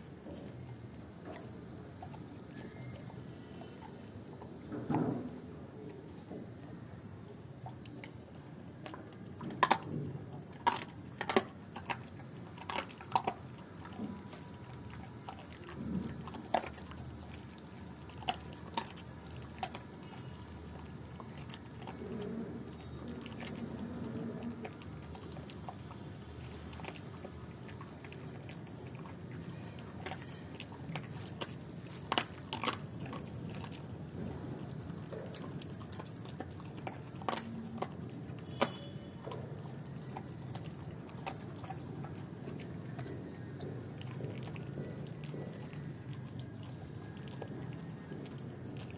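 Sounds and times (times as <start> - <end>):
dog chewing crunching bones: 0.0 - 48.9.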